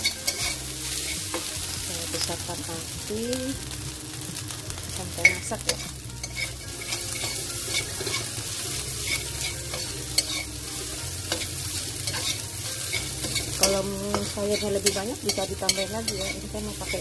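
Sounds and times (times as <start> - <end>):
metal spatula scraping a wok: 0.0 - 2.3, 4.9 - 17.0
fried rice sizzling in a wok: 0.0 - 17.0.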